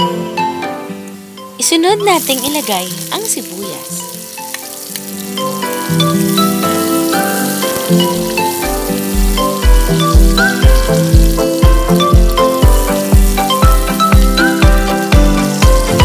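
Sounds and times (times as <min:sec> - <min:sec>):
background music with steady beat: 0:00.0 - 0:16.0
onion and garlic sizzling in oil: 0:01.0 - 0:16.0.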